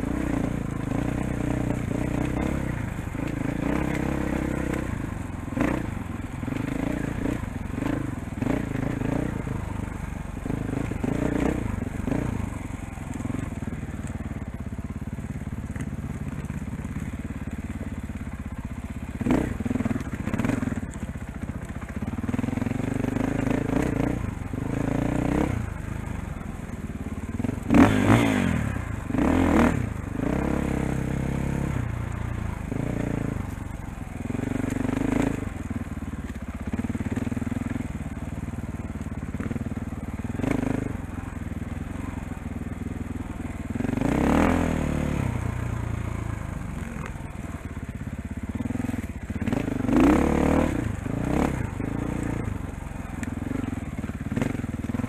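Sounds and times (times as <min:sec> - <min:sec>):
dirt bike engine revving: 0:00.0 - 0:18.2, 0:18.8 - 0:35.9, 0:36.6 - 0:55.0.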